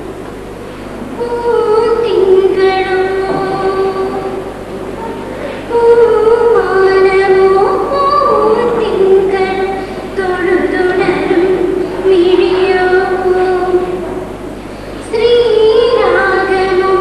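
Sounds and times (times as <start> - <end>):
girl singing: 1.2 - 14.1, 15.0 - 17.0.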